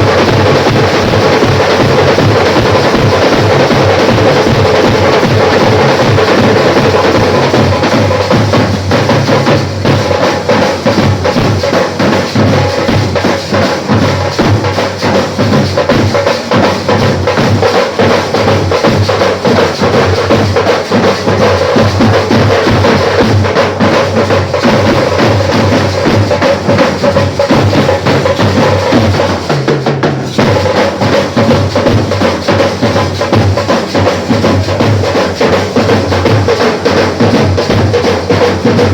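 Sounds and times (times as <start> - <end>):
heavy fast drumming: 0.0 - 38.9
live band playing loud music: 0.0 - 38.9.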